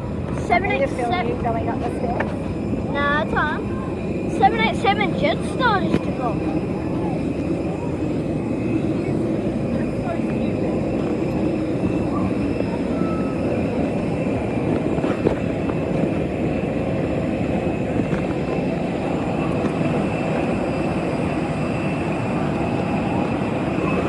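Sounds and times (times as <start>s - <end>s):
high engine whine: 0.0s - 24.0s
jet engines running: 0.0s - 24.0s.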